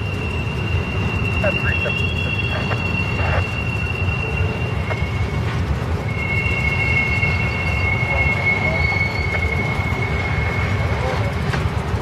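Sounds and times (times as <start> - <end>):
train wheels squealing: 0.0 - 11.7
freight train rumbling past: 0.0 - 12.0
wheels clicking on rails: 0.0 - 12.0.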